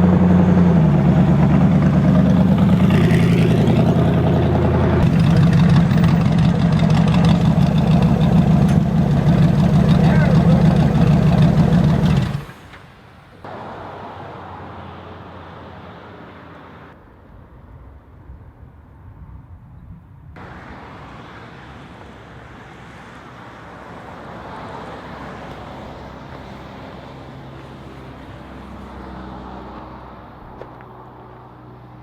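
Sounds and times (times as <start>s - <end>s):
vehicle and traffic noise: 0.0s - 32.0s.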